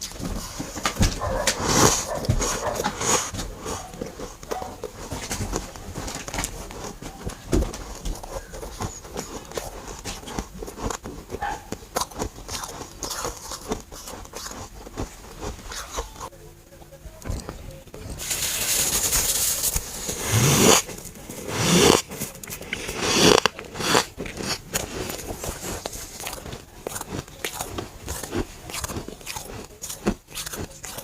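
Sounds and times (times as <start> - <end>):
chewing crunchy frost: 0.0 - 16.3, 17.2 - 31.0.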